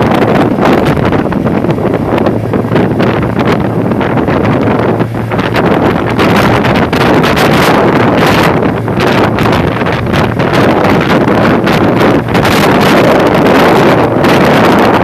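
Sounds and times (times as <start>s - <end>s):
hurricane wind gusting: 0.0s - 15.0s
wind buffeting the microphone: 0.0s - 15.0s.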